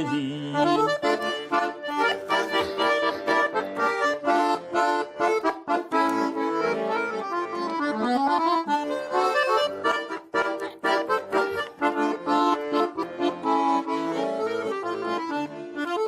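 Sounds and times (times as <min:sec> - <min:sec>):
button accordion playing: 0:00.0 - 0:16.0.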